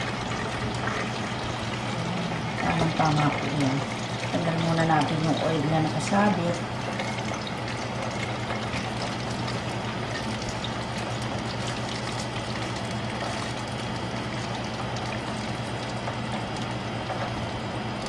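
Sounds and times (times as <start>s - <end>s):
hot oil sizzling and crackling: 0.0s - 18.0s
steady low hum: 0.0s - 18.0s.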